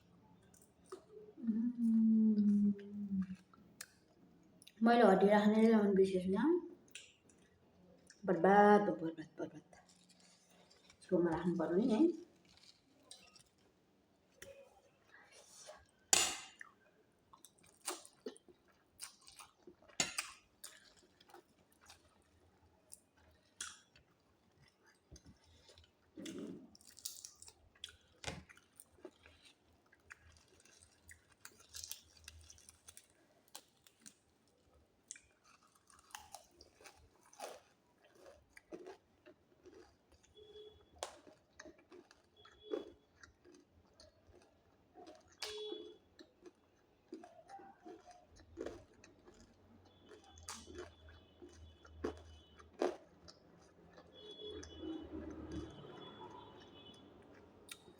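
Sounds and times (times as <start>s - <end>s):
person chewing crunchy food: 0.3s - 1.6s, 9.6s - 57.9s.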